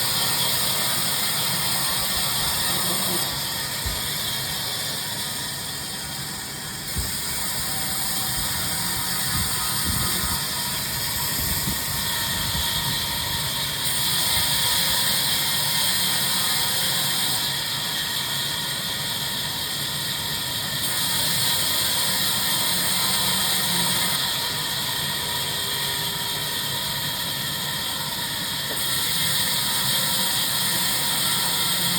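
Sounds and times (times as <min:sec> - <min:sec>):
sawmill machinery cutting timber: 0:00.0 - 0:31.9.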